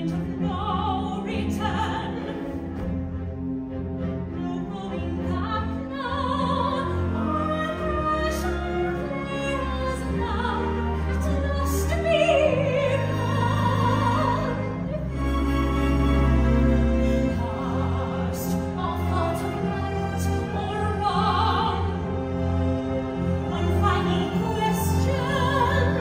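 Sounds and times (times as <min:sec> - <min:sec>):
operatic singing: 0:00.0 - 0:26.0
orchestra sustained strings: 0:00.0 - 0:26.0.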